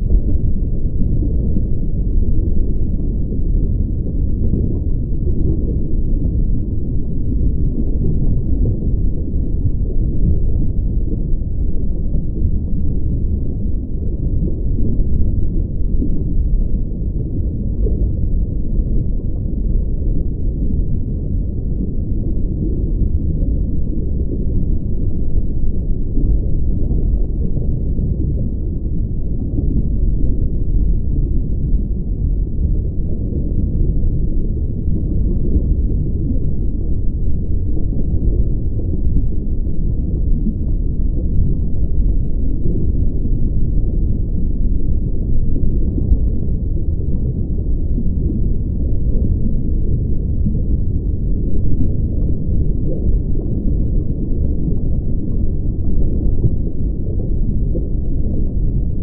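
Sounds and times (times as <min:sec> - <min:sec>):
deep rumbling hum: 0:00.0 - 0:59.0.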